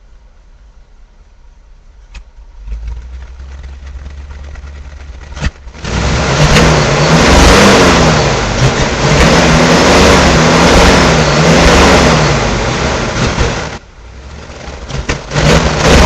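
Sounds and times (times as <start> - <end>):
car engine revving: 2.1 - 16.0.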